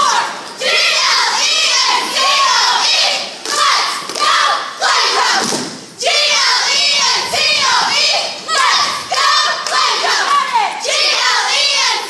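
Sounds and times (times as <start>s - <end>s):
cheerleaders shouting in unison: 0.0s - 12.0s.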